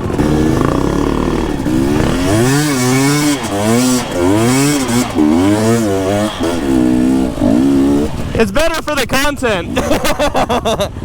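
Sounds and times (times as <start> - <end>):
dirt bike engine revving: 0.0 - 10.5.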